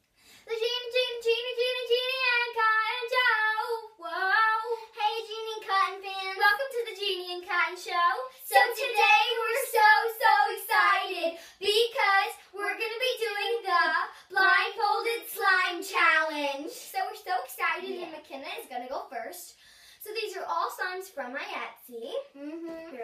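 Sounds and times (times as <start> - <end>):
girl singing: 0.4 - 21.0.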